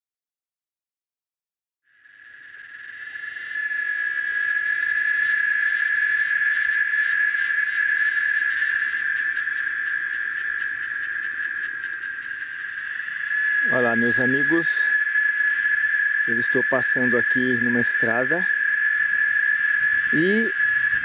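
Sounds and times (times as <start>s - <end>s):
cicada buzzing: 1.9s - 21.0s.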